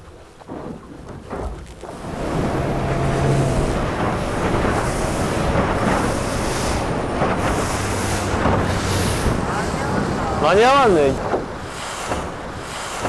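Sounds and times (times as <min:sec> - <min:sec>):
water rushing past hull: 0:00.0 - 0:13.0
wind buffeting microphone: 0:00.5 - 0:13.0
boat motor running: 0:01.4 - 0:13.0.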